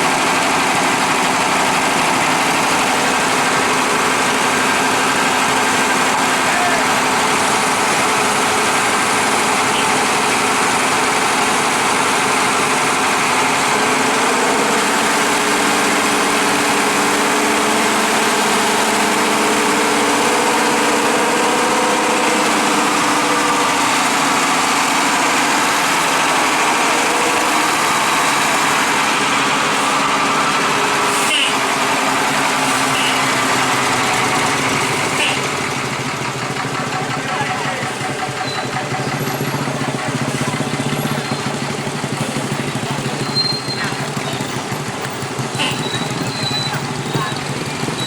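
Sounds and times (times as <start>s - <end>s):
large vehicle engine running: 0.0s - 48.0s.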